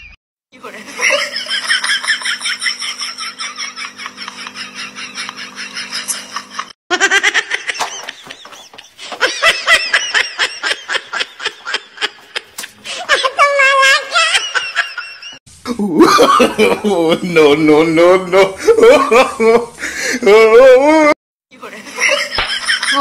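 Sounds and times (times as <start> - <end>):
people laughing: 0.6 - 23.0.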